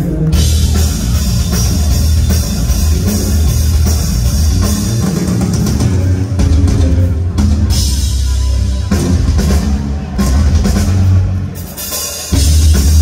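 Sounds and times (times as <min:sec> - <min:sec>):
drum solo: 0:00.0 - 0:13.0.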